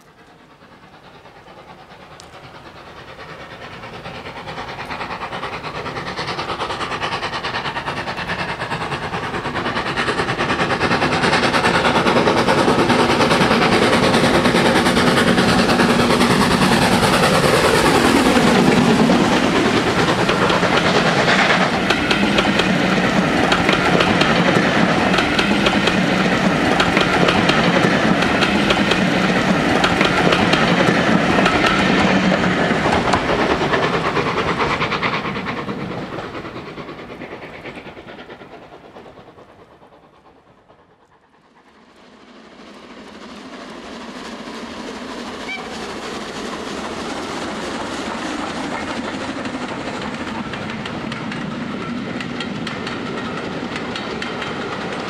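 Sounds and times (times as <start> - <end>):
steam train passing: 0.0 - 55.0
wheels clacking over rail joints: 2.0 - 39.2, 45.2 - 55.0.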